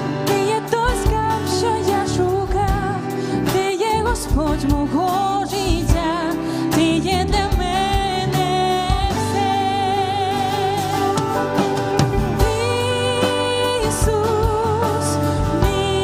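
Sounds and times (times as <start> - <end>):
person singing with vibrato: 0.0 - 11.5, 12.3 - 16.0
worship band playing: 0.0 - 16.0.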